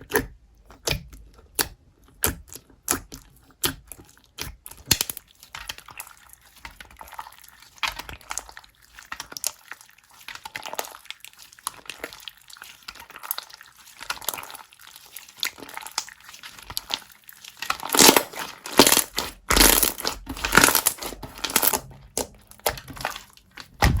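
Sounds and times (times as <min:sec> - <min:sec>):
crinkling and crackling: 0:00.0 - 0:24.0.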